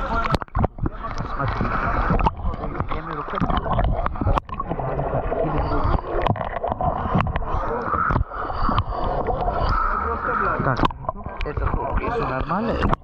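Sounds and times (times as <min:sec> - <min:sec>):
seawater sloshing and lapping: 0:00.0 - 0:13.0
waves splashing against camera: 0:00.0 - 0:13.0.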